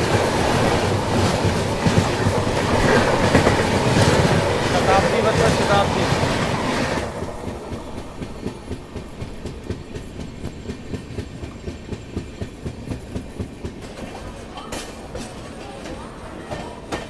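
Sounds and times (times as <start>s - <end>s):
train wheels clattering: 0.0s - 17.0s.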